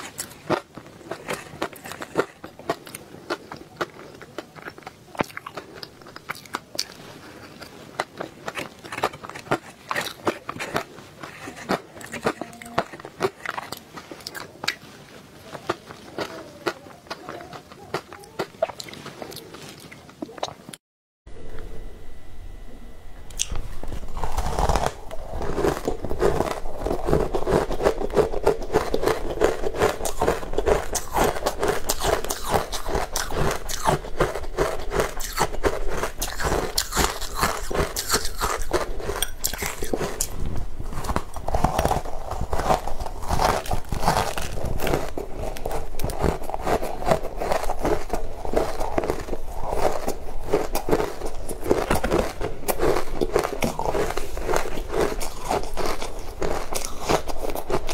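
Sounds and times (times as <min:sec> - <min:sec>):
crunching and chewing shaved ice: 0:00.0 - 0:20.8, 0:23.4 - 0:57.9.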